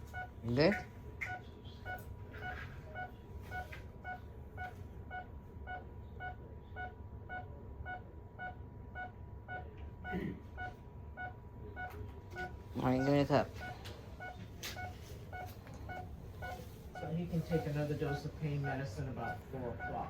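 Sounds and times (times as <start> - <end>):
faint steady tone: 0.0 - 20.0
patient monitor beeping: 0.0 - 20.0.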